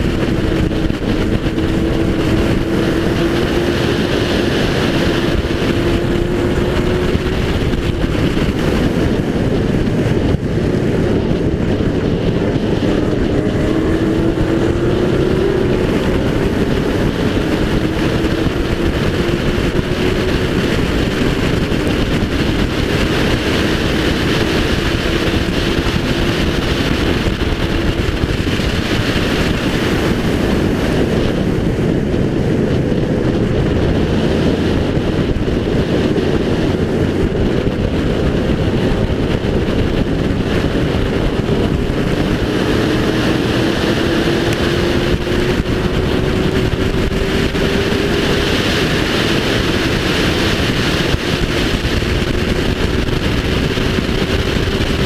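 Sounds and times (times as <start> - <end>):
race car engine under load: 0.0 - 55.0
wind and road noise: 0.0 - 55.0.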